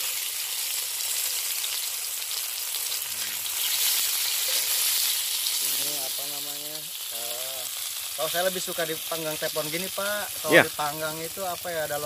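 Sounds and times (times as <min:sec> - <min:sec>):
sausages sizzling in hot oil: 0:00.0 - 0:12.0.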